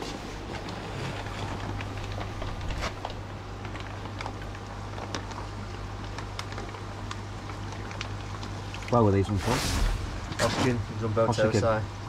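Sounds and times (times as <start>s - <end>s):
pump humming: 0.0s - 12.0s
water patter: 0.4s - 11.2s.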